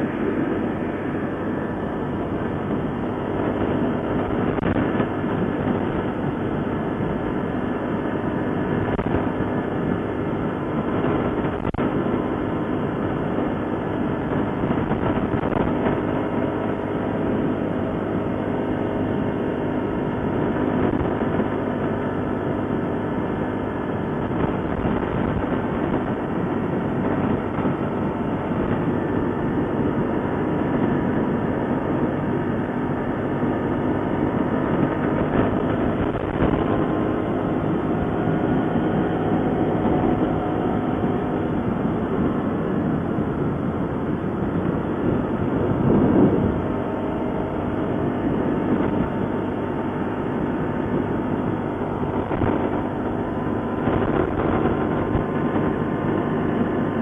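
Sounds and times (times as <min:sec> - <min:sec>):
atv engine rumbling: 0:00.0 - 0:57.0.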